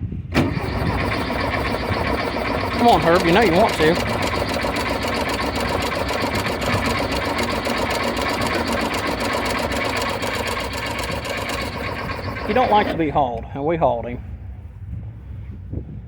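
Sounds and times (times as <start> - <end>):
car engine cranking by starter motor: 0.0 - 13.5.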